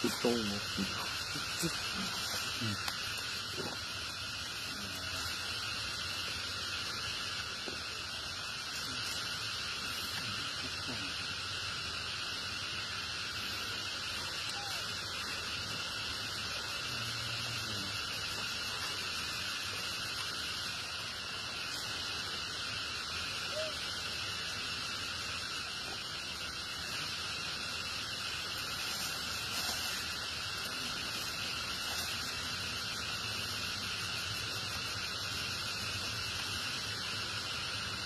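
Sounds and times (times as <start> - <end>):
insect chorus buzzing: 0.0 - 38.0.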